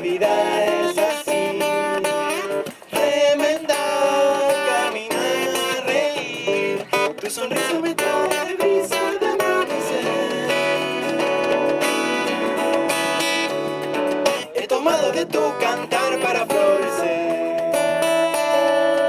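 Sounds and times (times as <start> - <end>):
person singing: 0.0 - 13.2, 14.2 - 19.0
acoustic guitar: 0.0 - 19.0.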